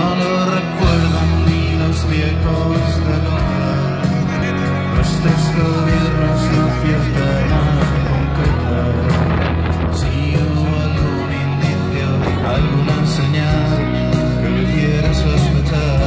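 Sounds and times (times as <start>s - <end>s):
bass guitar: 0.0s - 16.0s
drums with steady beat: 0.0s - 16.0s
electric guitars: 0.0s - 16.0s.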